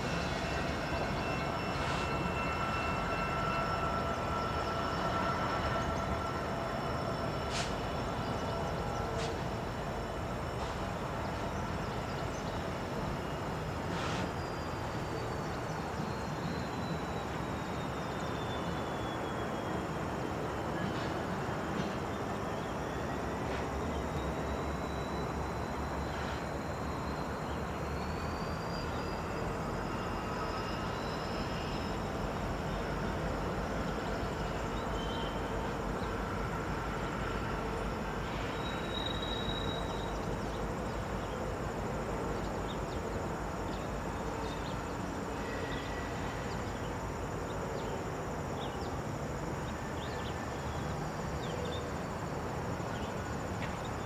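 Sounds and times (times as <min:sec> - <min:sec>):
diesel locomotives rumbling: 0:00.0 - 0:54.0
insects chirring: 0:00.0 - 0:54.0.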